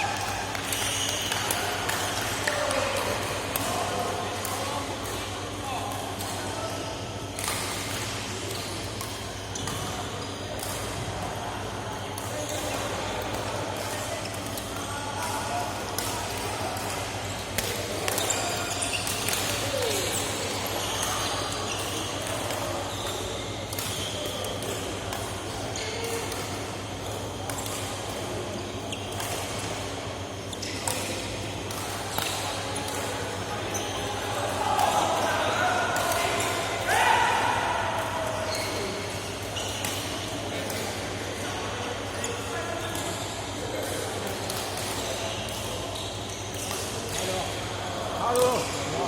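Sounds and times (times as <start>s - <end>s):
low hum of large hall: 0.0s - 49.0s.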